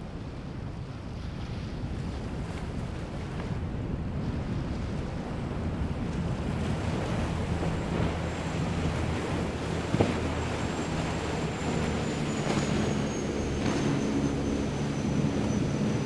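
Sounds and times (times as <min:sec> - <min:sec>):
wind buffeting microphone: 0:00.0 - 0:16.0
boat engine drone: 0:03.1 - 0:16.0.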